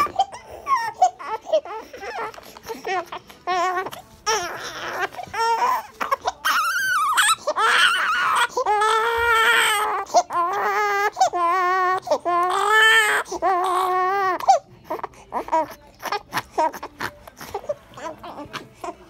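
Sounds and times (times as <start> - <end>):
infant crying: 0.0 - 19.0.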